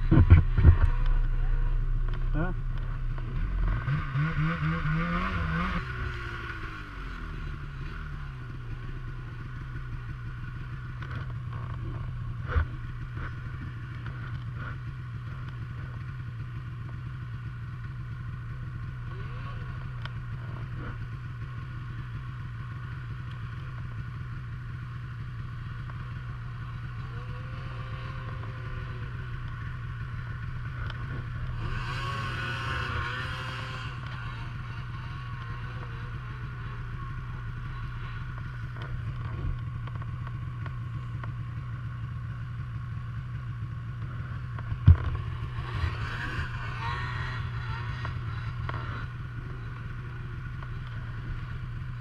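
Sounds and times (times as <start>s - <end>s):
distant snowmobiles revving: 0.0s - 52.0s
snowmobile engine revving and idling: 0.0s - 52.0s.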